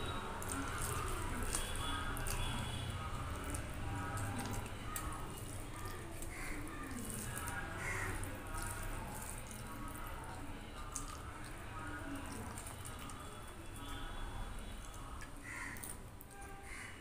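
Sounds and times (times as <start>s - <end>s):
fingers mixing rice on steel plate: 0.3s - 14.0s.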